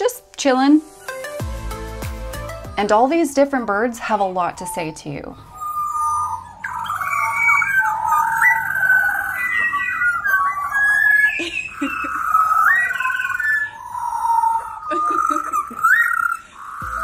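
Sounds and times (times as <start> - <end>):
birds singing fluting whistles: 2.4 - 17.0.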